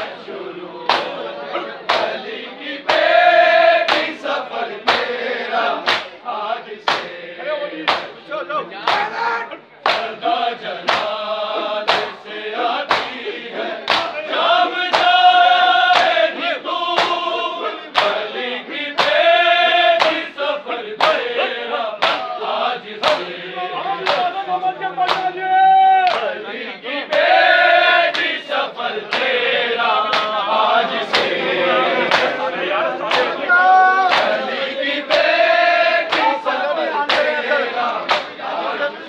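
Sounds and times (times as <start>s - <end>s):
crowd beating their chests: 0.0s - 39.0s
men chanting in unison: 0.0s - 39.0s.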